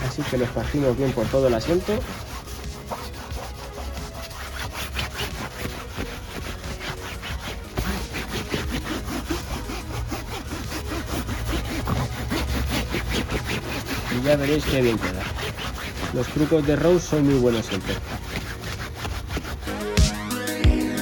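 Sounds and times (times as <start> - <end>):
cloth scrubbing fabric seat: 0.0 - 20.1.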